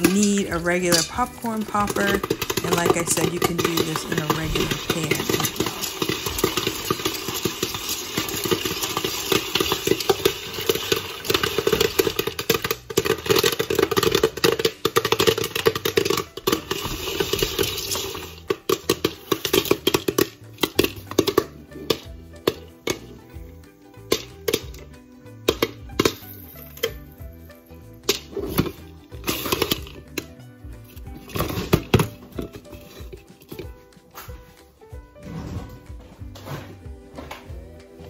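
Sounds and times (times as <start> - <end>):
popcorn popping: 0.0 - 38.0.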